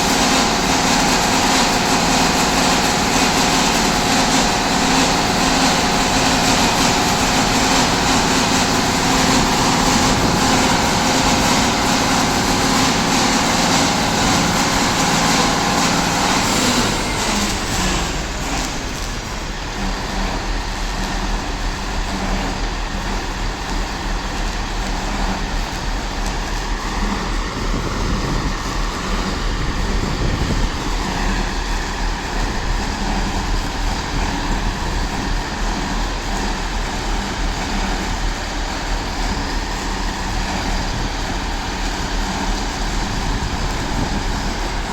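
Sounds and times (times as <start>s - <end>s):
diesel engine droning: 0.0s - 44.9s
harsh rough engine noise: 0.0s - 44.9s.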